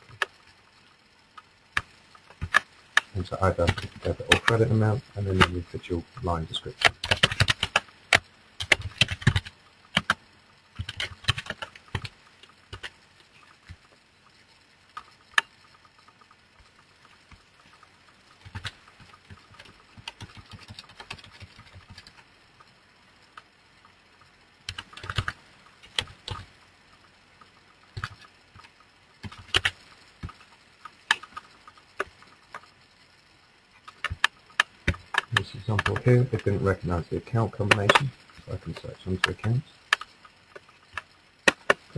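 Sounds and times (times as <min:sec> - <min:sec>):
computer keyboard typing: 0:00.0 - 0:00.4, 0:01.8 - 0:13.9, 0:14.9 - 0:22.7, 0:24.6 - 0:26.5, 0:27.4 - 0:32.7, 0:33.8 - 0:41.9.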